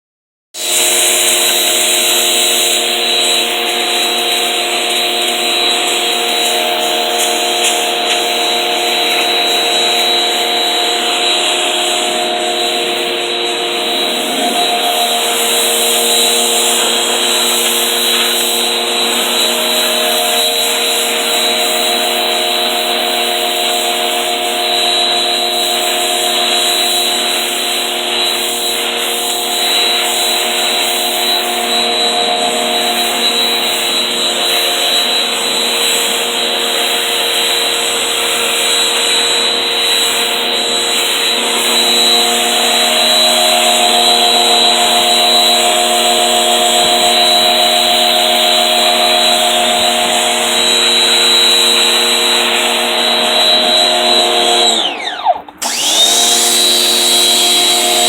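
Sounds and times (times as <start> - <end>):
water spray hissing: 0.6 - 54.7
pressure washer motor humming: 0.6 - 58.0.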